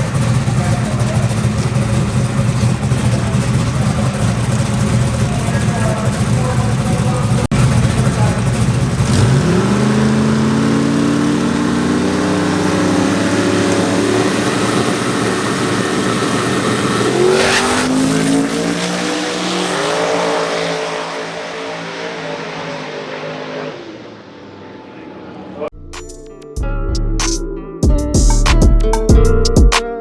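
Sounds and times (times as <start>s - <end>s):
drag racing car engine accelerating: 0.0s - 25.7s.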